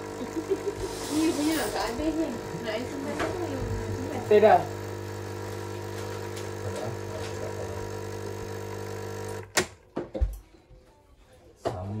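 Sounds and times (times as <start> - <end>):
electrical appliance hum: 0.0 - 10.4.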